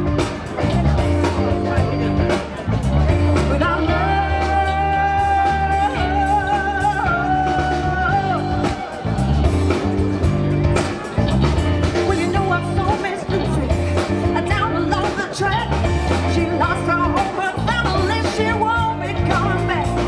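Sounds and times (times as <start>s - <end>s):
rock band playing funk groove: 0.0s - 20.0s.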